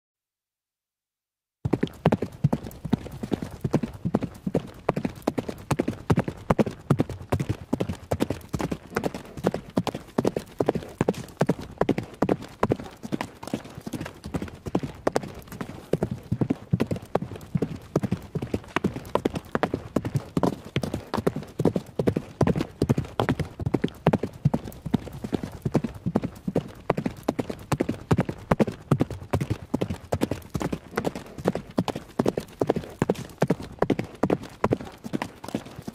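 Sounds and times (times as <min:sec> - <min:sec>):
horse hooves galloping: 0:01.7 - 0:35.9.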